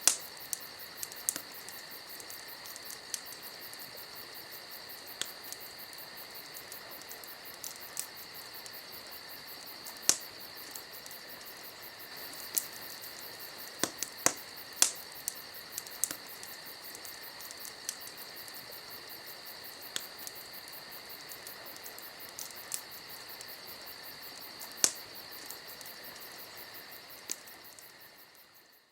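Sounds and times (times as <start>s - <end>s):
steady high hiss: 0.0s - 28.8s
wood fire crackling: 0.0s - 28.8s.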